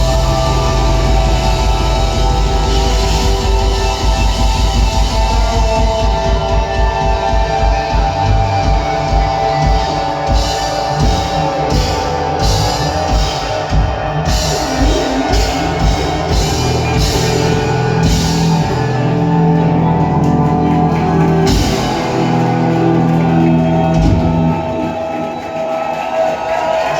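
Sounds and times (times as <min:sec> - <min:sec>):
heavy rock band playing: 0:00.0 - 0:26.9.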